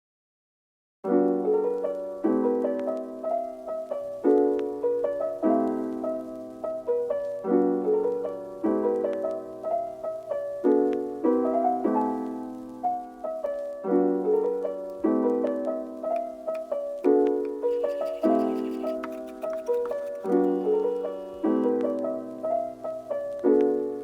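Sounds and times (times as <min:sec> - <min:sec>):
soft piano chords: 0:01.1 - 0:24.0.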